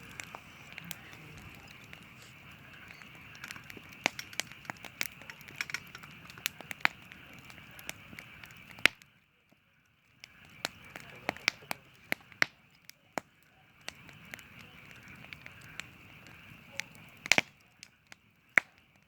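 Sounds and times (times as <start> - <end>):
campfire crackling and popping: 0.0 - 19.0
steady hiss: 0.0 - 19.0.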